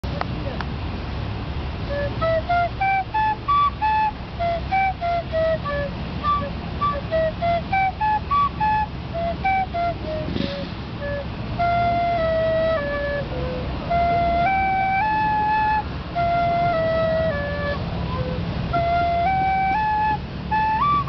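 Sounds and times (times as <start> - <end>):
wooden flute melody: 1.8 - 21.0.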